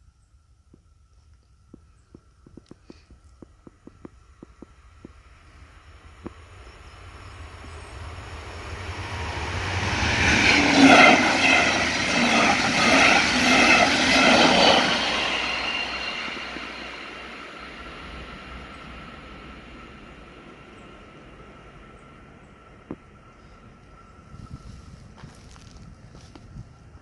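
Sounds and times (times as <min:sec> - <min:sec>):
train passing with rhythmic clatter: 0:01.8 - 0:27.0.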